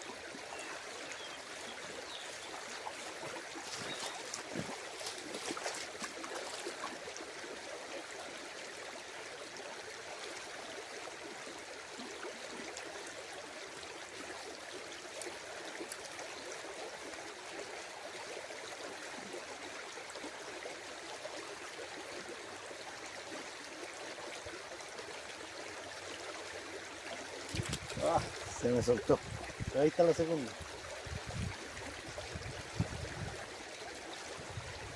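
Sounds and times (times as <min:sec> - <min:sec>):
stream water rushing: 0:00.0 - 0:34.9.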